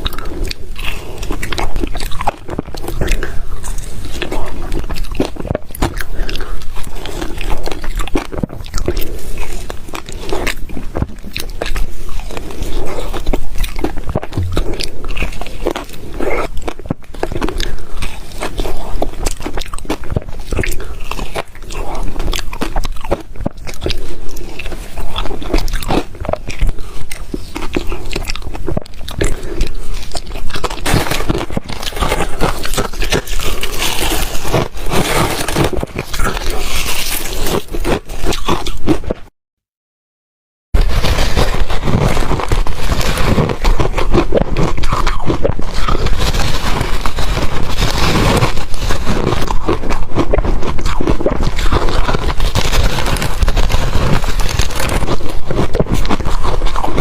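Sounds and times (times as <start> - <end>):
person crunching ice: 0.0 - 39.3, 40.8 - 57.0.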